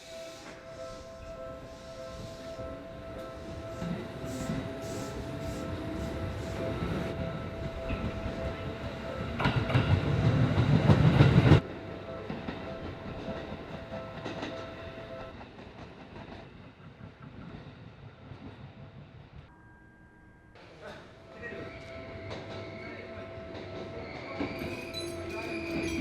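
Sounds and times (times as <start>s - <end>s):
train wheels clacking on rails: 0.0s - 19.1s, 21.4s - 26.0s
train rumble: 0.0s - 19.5s, 20.6s - 26.0s.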